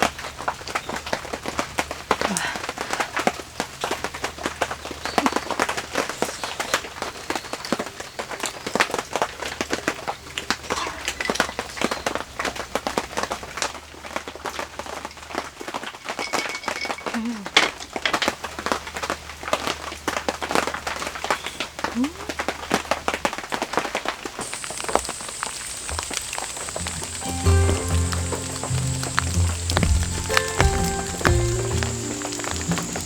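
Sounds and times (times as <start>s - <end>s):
rain falling: 0.0s - 33.0s
raindrops tapping on surfaces: 0.0s - 33.0s.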